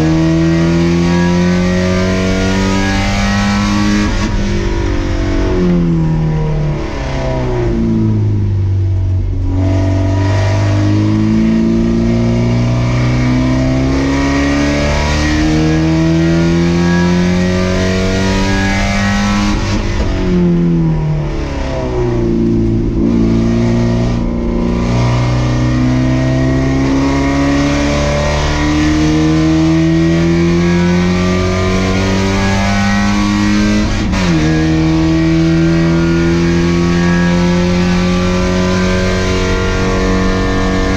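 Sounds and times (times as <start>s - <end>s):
race car engine accelerating: 0.0s - 40.9s.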